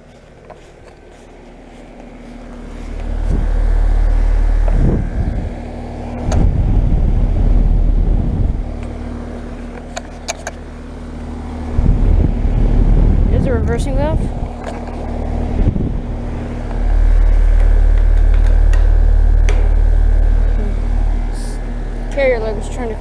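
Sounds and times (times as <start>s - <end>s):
heat pump humming: 0.0s - 23.0s
low rumble: 2.0s - 23.0s.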